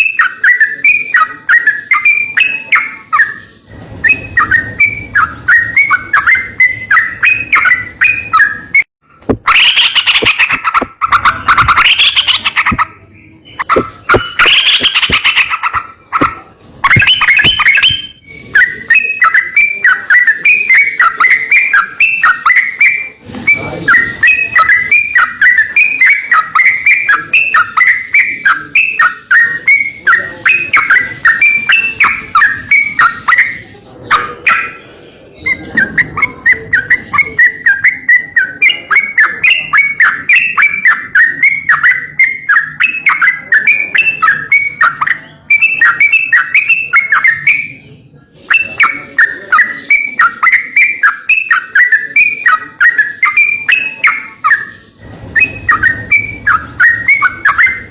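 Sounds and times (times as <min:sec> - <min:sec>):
songbird chirping: 0:00.0 - 0:57.9.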